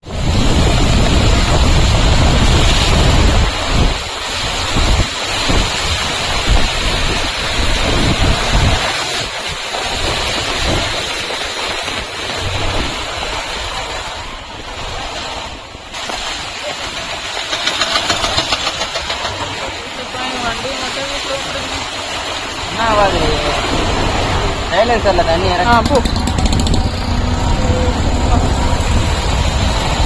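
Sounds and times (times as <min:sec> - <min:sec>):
wind buffeting microphone: 0:00.0 - 0:19.6, 0:22.2 - 0:30.0
rain: 0:00.0 - 0:30.0.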